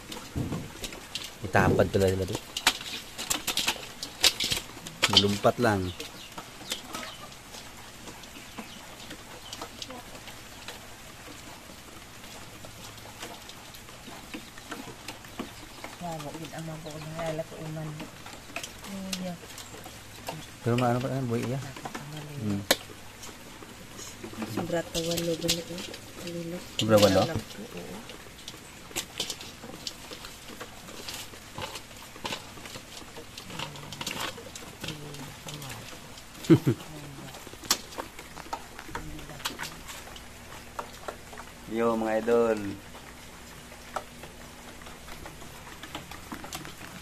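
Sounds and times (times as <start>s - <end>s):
crustaceans tapping on metal: 0.0s - 11.7s, 12.5s - 43.1s
steady background hiss: 0.0s - 47.0s.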